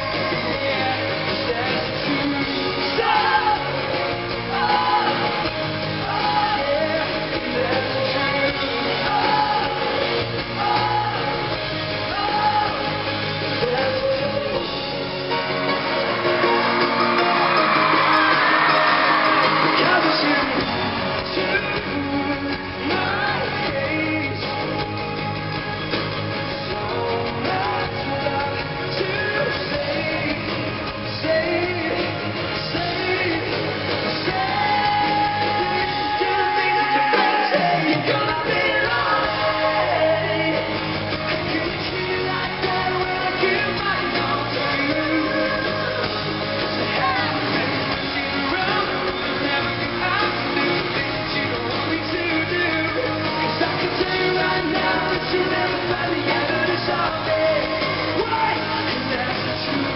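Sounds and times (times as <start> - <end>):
acoustic guitar: 0.0 - 59.9
bass guitar: 0.0 - 59.9
live rock band playing: 0.0 - 59.9
person singing: 0.0 - 59.9.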